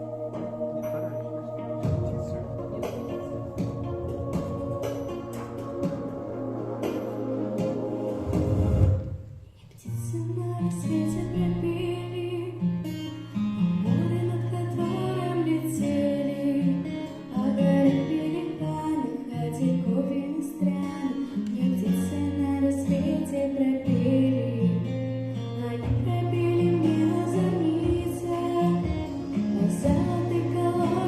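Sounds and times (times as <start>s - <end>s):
plucked acoustic guitar: 0.0s - 31.0s.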